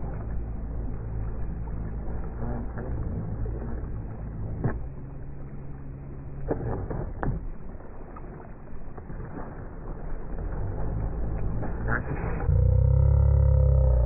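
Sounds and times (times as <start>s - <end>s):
hull slapping water: 0.0s - 12.5s.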